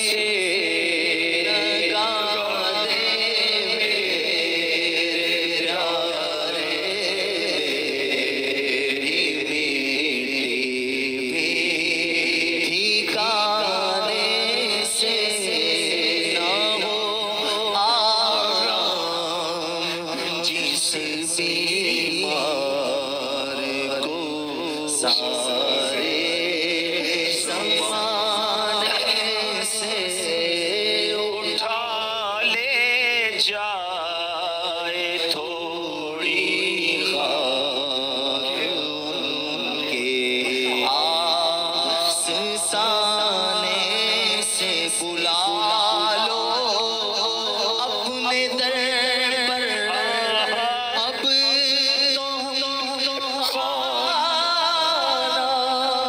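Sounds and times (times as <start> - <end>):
man singing into a microphone: 0.0 - 56.0.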